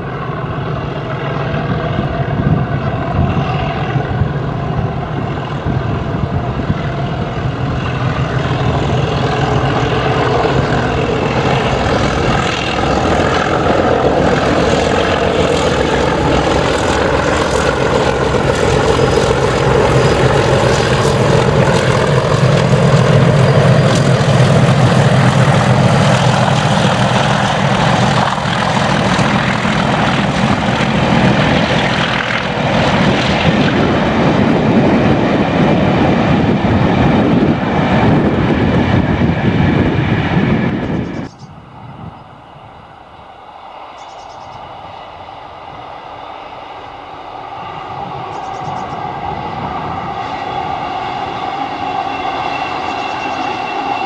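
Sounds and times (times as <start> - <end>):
diesel locomotives growling: 0.0 - 54.0.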